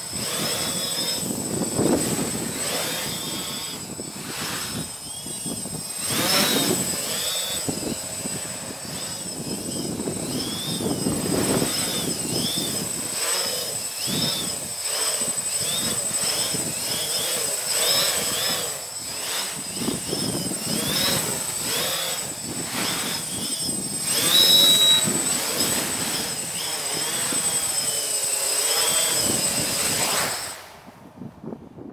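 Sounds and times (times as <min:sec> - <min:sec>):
drone propellers whining: 0:00.0 - 0:31.3
wind rumbling on microphone: 0:00.0 - 0:31.9.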